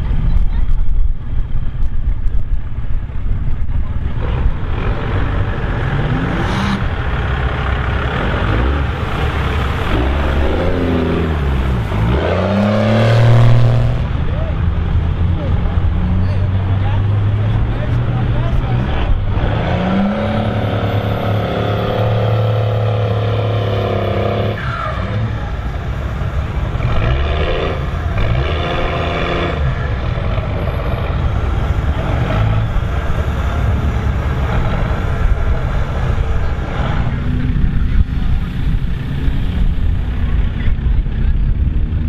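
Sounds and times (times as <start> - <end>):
diesel truck engine revving: 4.1 - 42.0.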